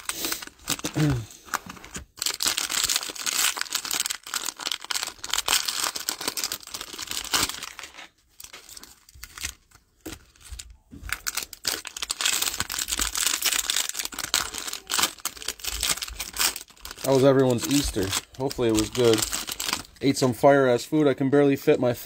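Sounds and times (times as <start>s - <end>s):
foil wrappers crinkling and tearing: 0.0s - 20.2s.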